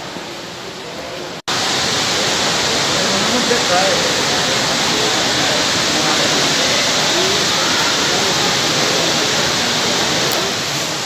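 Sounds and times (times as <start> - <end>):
running water echoing in a cave: 0.0 - 11.0.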